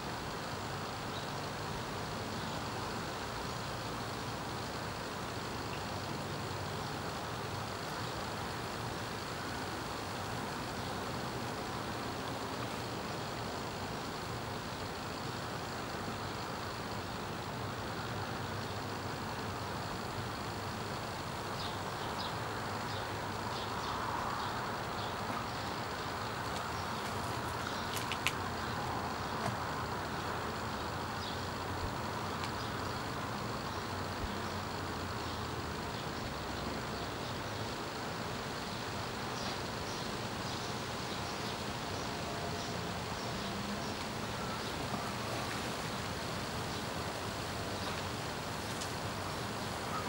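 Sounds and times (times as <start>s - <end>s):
distant road traffic: 0.0s - 50.0s
even hiss: 0.0s - 50.0s.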